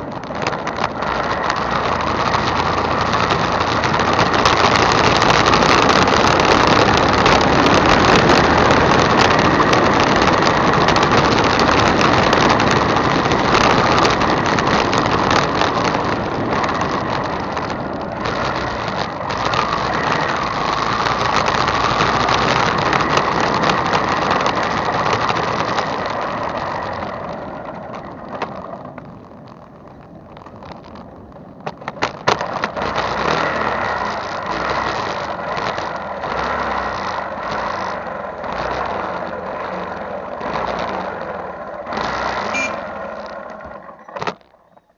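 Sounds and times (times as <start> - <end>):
motorcycle engine: 0.0 - 44.9
sharp rattles: 0.0 - 44.9
wind noise: 0.0 - 44.9.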